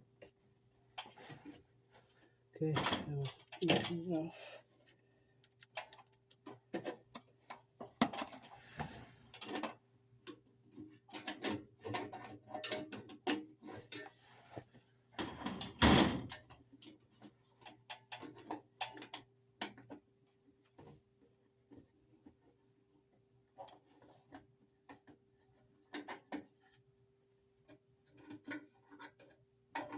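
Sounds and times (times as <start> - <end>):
clicks taps and rattles of parts: 0.1 - 4.3, 5.3 - 29.9.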